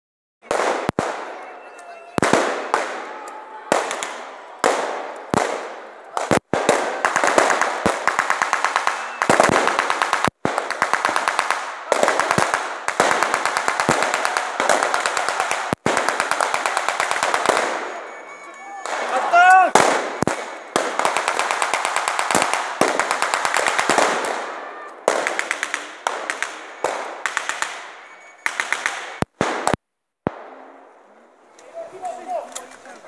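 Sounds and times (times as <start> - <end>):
rifle shots echoing: 0.4 - 31.0.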